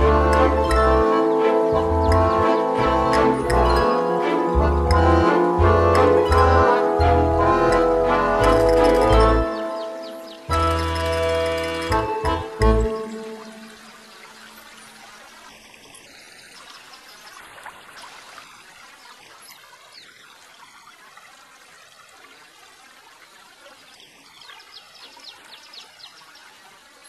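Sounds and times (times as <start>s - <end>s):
river water running over rocks: 0.0s - 27.0s.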